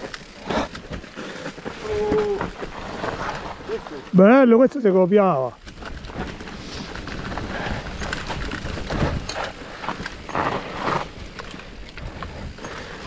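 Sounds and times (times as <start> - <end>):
bike rattling and knocking: 0.0 - 4.3, 5.6 - 13.0
bike tyres crunching on dirt: 0.0 - 4.4, 5.4 - 13.0.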